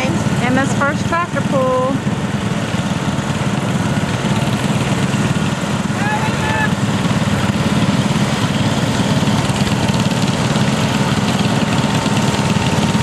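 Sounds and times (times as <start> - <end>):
garden tractor engine running: 0.0 - 13.0.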